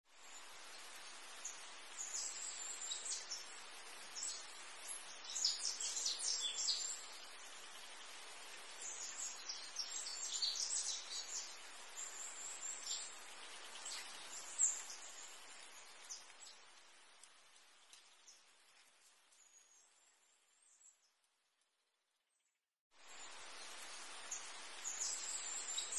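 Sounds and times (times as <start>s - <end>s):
steady hiss: 0.1s - 19.9s, 23.0s - 25.9s.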